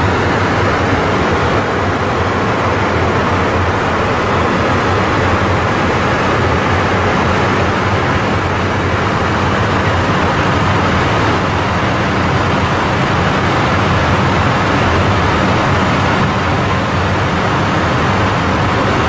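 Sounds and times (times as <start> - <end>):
jet cockpit airflow and engines: 0.0 - 19.0.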